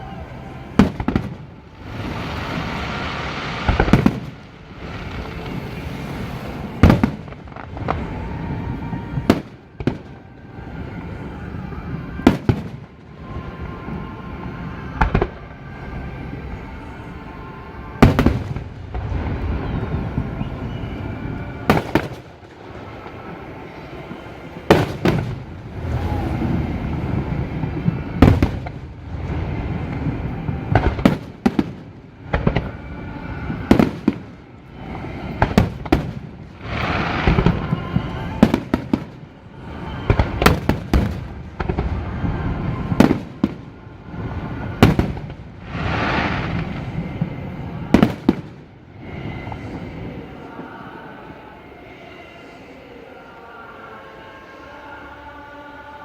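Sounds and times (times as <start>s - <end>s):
fireworks bangs with echo: 0.0s - 17.2s, 17.8s - 50.7s
fireworks crackling: 0.0s - 52.0s.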